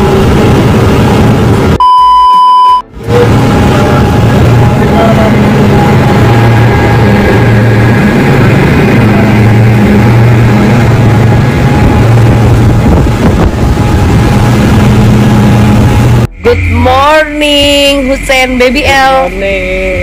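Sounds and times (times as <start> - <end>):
speedboat engine drone: 0.0 - 1.8, 2.8 - 20.0.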